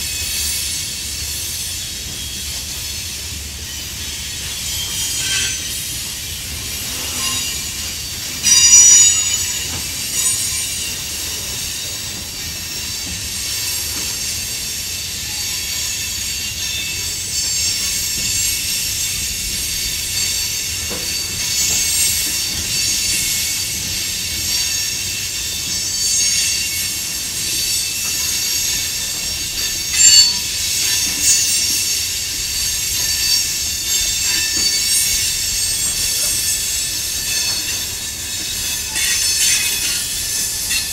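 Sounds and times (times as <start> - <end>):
train wheels squealing on rail: 0.0 - 40.9.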